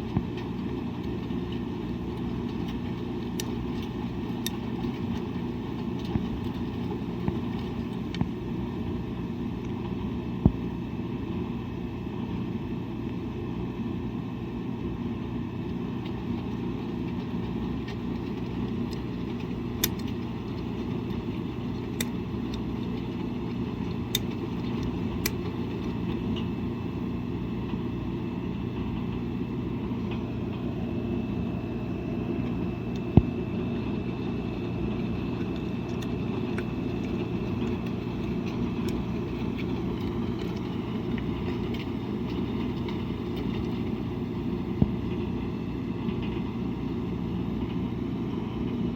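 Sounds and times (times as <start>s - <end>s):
washing machine humming: 0.0s - 48.9s.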